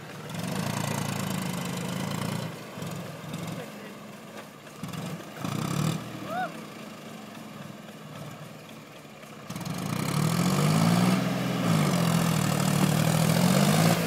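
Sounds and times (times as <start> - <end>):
tractor engine revving: 0.0 - 14.0.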